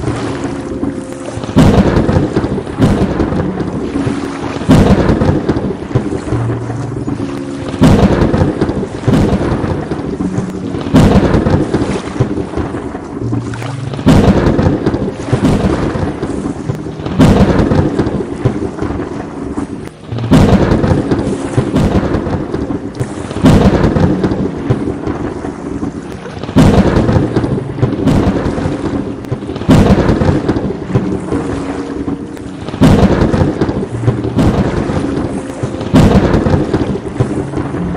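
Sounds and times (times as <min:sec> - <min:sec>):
steady rain: 0:00.0 - 0:37.9
thunderclap with rumble: 0:00.0 - 0:37.9.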